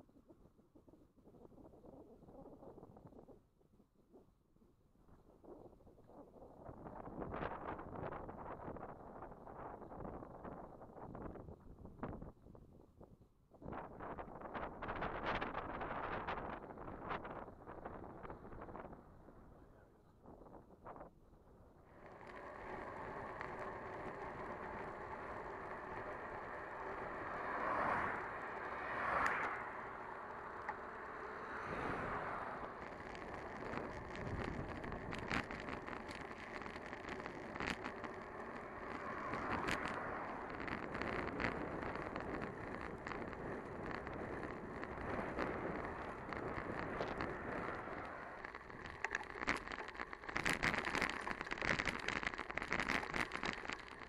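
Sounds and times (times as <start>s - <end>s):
wind noise on microphone: 0.0s - 4.4s, 5.0s - 54.0s
bicycle rolling noise: 5.0s - 54.0s.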